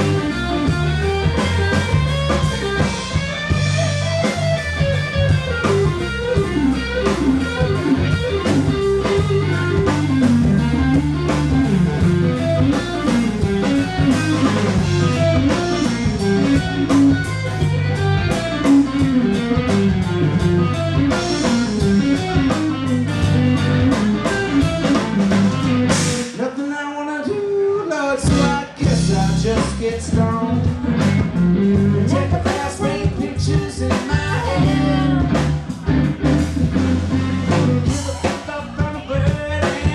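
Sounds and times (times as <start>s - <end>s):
electric guitar lead bending notes: 0.0s - 26.5s, 27.5s - 39.9s
bass: 0.0s - 39.9s
drums: 0.0s - 39.9s.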